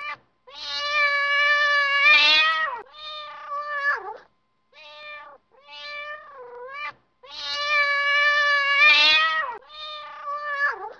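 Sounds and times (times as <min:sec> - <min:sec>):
cat meowing: 0:00.0 - 0:10.9.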